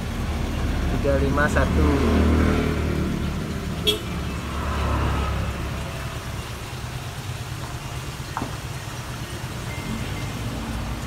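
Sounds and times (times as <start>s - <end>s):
passing vehicle rumble: 0.0s - 11.0s.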